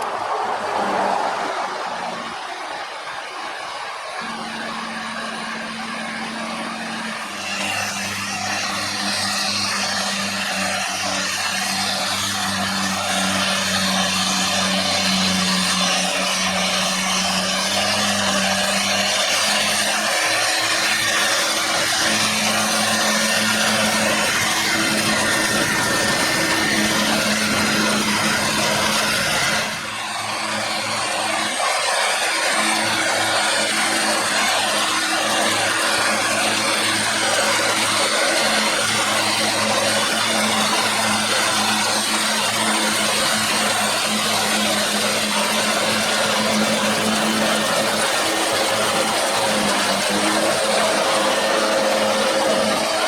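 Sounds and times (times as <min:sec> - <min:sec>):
forager chopping and blowing grass: 0:00.0 - 0:53.0
tractor engine drone: 0:00.0 - 0:53.0.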